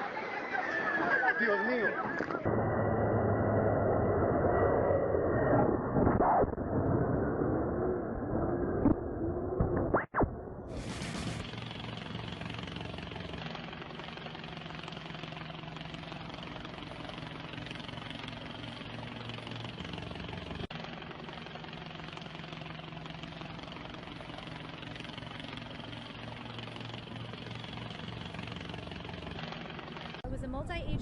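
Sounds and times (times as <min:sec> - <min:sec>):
engine drone with low hum: 0:02.0 - 0:31.0.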